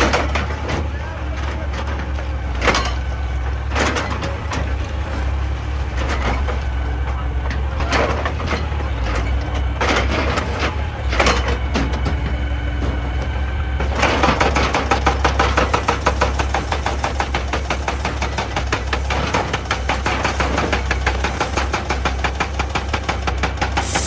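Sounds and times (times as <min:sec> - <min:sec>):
excavator diesel engine running: 0:00.0 - 0:24.0
hydraulic rock breaker hammering stone: 0:00.0 - 0:24.0.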